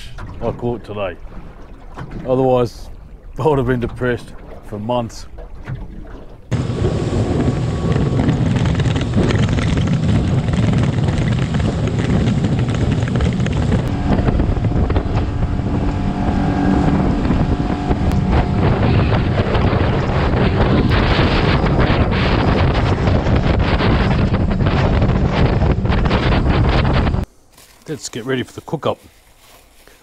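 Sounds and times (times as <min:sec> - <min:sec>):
boat engine drone: 0:00.0 - 0:27.3
water rushing off hull: 0:00.0 - 0:27.3
wind buffeting microphone: 0:00.0 - 0:27.3.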